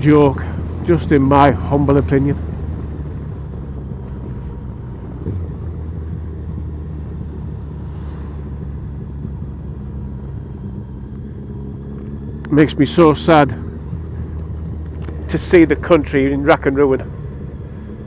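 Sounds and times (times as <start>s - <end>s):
motorcycle engine running: 0.0s - 18.0s
wind and road noise: 0.0s - 18.0s.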